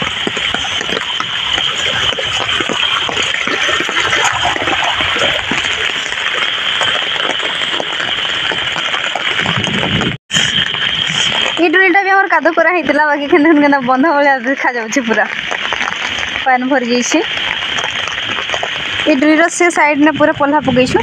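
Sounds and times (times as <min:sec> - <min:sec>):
floodwater rushing: 0:00.0 - 0:21.0
heavy rain pouring: 0:00.0 - 0:21.0.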